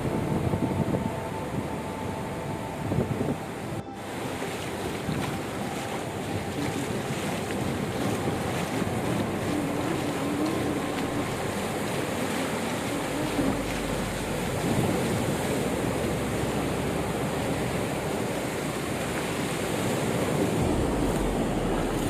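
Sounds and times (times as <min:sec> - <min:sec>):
faint wavering hum: 0:00.0 - 0:22.0
ocean waves washing on beach: 0:00.0 - 0:22.0
wind buffeting microphone: 0:00.0 - 0:22.0.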